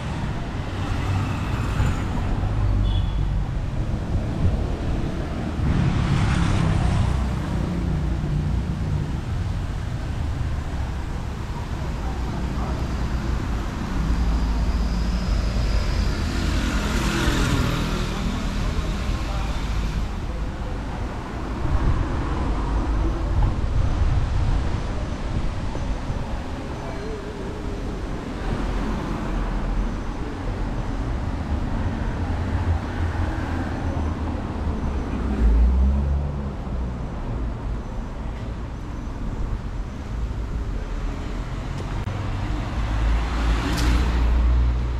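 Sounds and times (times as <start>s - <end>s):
city street traffic: 0.0s - 44.9s.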